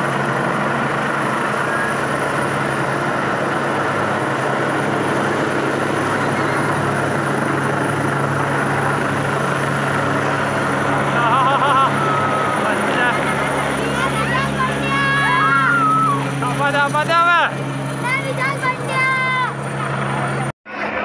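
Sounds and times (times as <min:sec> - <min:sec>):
helicopter flying overhead: 0:00.0 - 0:21.0.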